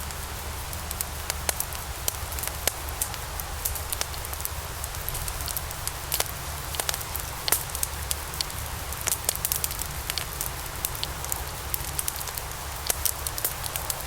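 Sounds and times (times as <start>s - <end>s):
logs burning in a fireplace: 0.0s - 14.0s.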